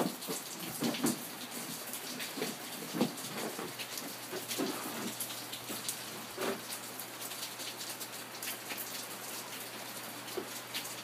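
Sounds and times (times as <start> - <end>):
rain pattering: 0.0 - 11.0
water dripping from roof gutter: 0.0 - 11.0.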